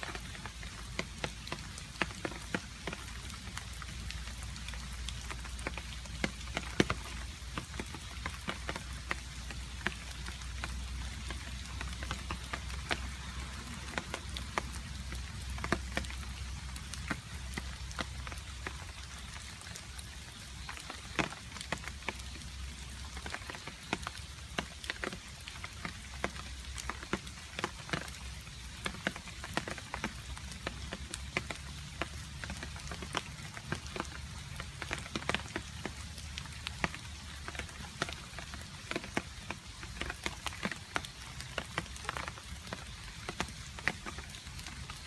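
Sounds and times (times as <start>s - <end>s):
rain hiss: 0.0s - 45.0s
sharp drips on a surface: 0.0s - 45.0s.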